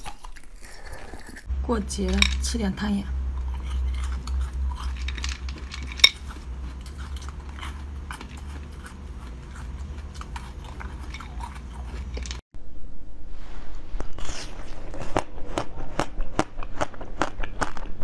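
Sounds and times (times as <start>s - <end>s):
biting and chewing: 0.0s - 1.5s, 3.1s - 12.4s, 14.2s - 18.0s.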